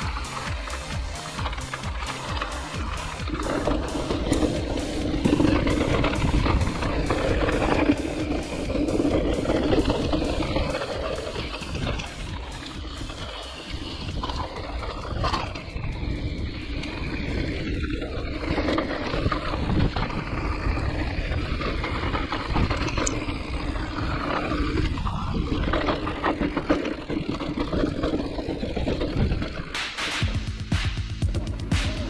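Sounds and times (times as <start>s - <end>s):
bike rattling on rough trail: 0.0s - 32.0s
wind on microphone: 2.8s - 29.7s.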